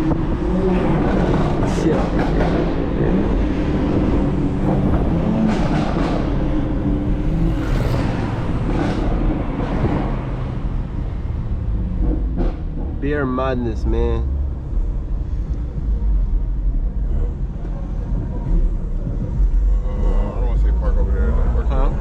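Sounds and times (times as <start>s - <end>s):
car engine driving: 0.0s - 22.0s.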